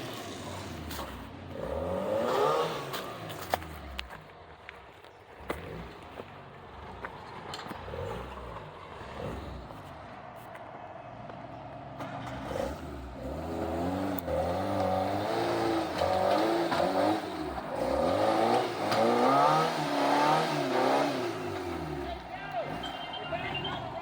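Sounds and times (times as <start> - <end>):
off-road vehicle engine revving: 0.0 - 4.2, 5.4 - 10.1, 11.9 - 24.0.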